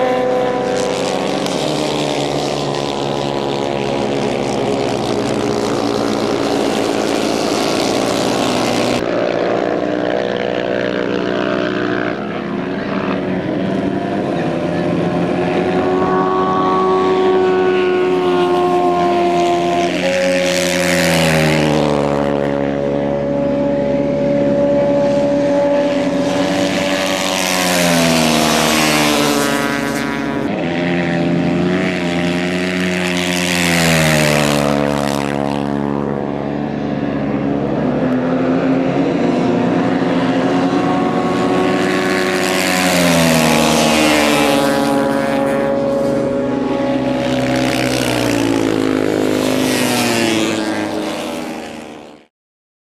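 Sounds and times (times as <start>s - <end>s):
motocross bike engines revving: 0.0s - 52.2s.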